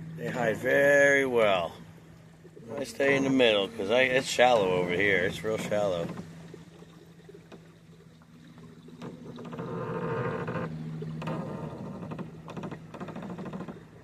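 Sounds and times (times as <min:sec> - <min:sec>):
steady low hum: 0:00.0 - 0:14.0
water noise: 0:00.0 - 0:14.0.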